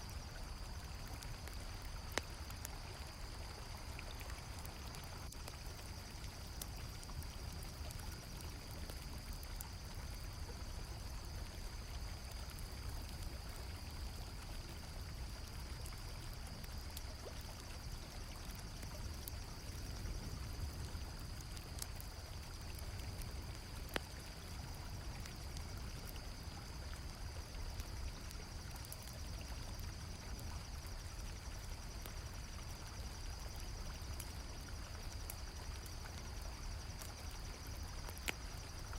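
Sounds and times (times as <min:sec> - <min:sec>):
campfire crackling: 0:00.0 - 0:38.9
crickets trilling: 0:00.0 - 0:38.9.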